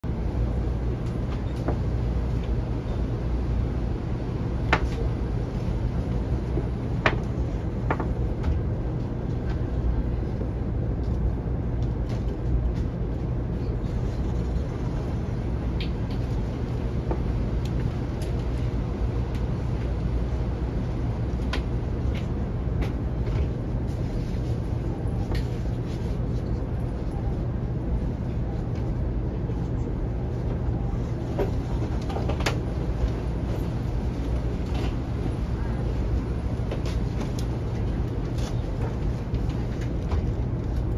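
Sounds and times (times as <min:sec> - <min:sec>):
train interior low rumble: 0:00.0 - 0:40.9.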